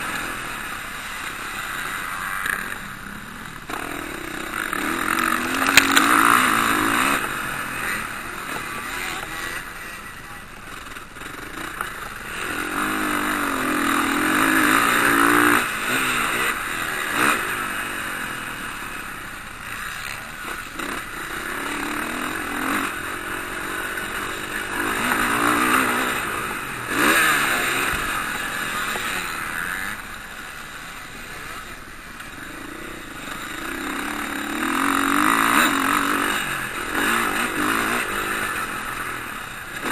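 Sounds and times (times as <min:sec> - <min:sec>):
motocross bikes racing past: 0:00.0 - 0:39.9.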